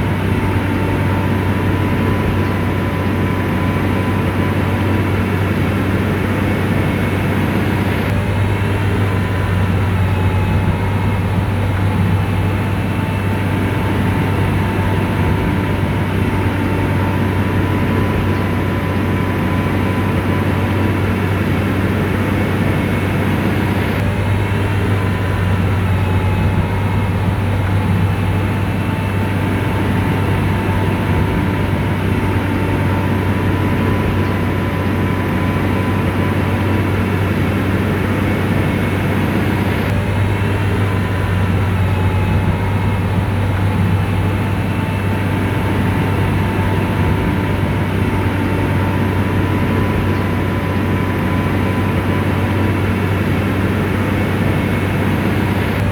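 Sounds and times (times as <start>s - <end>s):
diesel engine droning: 0.0s - 55.9s
faint steady whine: 0.0s - 55.9s.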